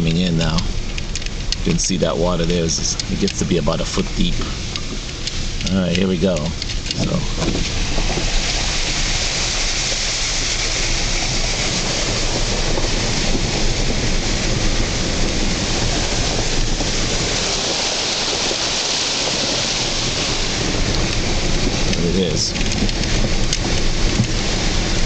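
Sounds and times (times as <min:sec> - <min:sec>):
heavy rain hissing: 0:00.0 - 0:25.0
low rumble: 0:00.0 - 0:25.0
wet tyres on flooded road: 0:00.0 - 0:25.0.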